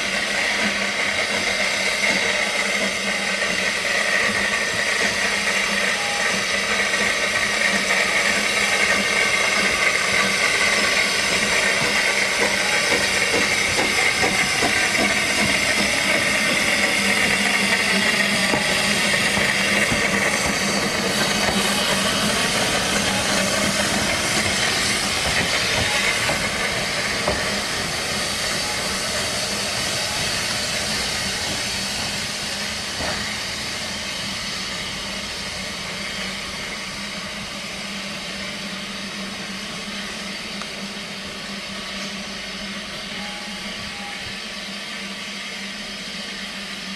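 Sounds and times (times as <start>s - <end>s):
steam hissing from engine: 0.0s - 46.9s.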